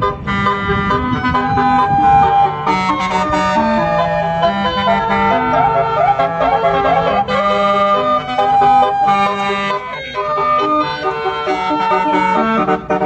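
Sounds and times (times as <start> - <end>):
multi-tone horn playing a melody: 0.0 - 13.0.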